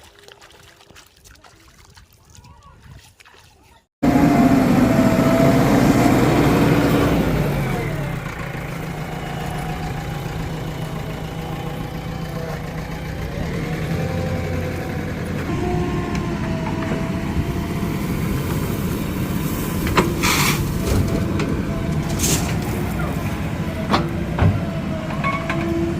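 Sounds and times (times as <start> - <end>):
diesel engine running: 4.0 - 25.9.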